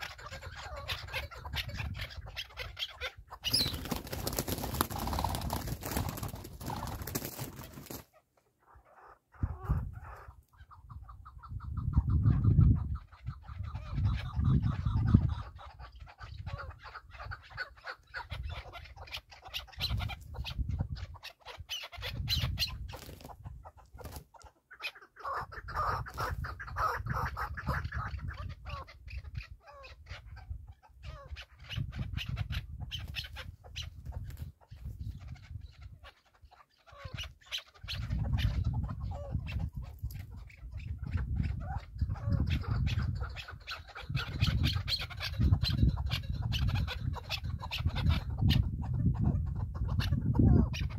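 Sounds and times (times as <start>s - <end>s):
wind buffeting microphone: 0.0s - 7.1s, 9.4s - 17.6s, 19.7s - 21.2s, 22.0s - 24.1s, 25.4s - 36.0s, 37.0s - 50.9s
birds clucking: 0.0s - 50.9s.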